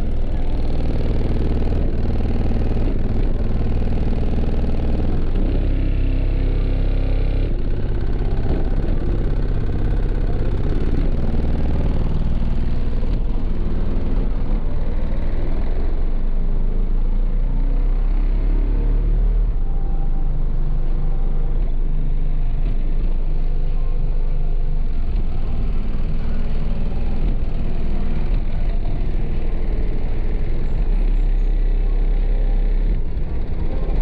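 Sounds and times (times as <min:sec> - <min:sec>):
bass-heavy music from subwoofers: 0:00.0 - 0:34.0.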